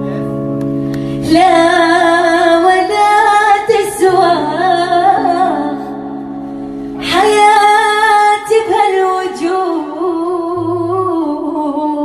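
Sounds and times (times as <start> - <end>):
woman singing slow song: 1.1 - 12.0.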